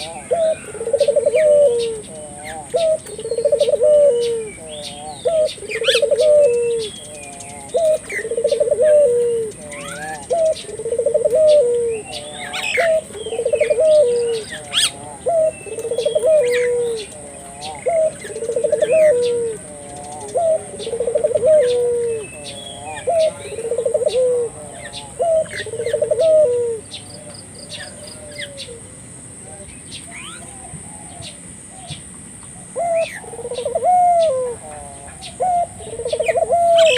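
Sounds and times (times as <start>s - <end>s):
dove cooing: 0.0s - 32.0s, 32.6s - 36.9s
small birds chirping: 0.0s - 36.9s.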